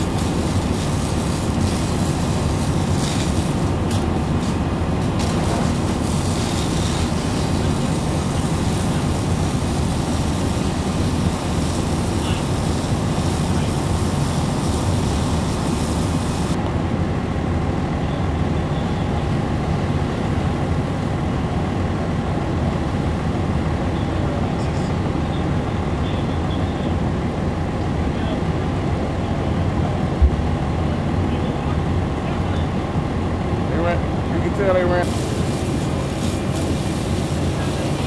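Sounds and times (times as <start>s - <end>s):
diesel engines rumbling: 0.0s - 38.0s.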